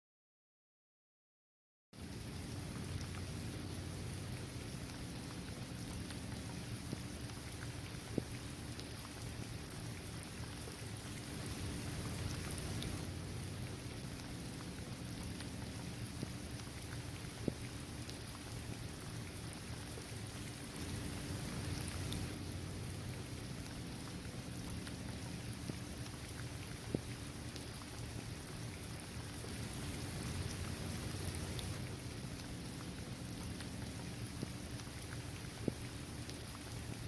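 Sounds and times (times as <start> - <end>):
rain on pavement and trees: 2.0 - 37.0.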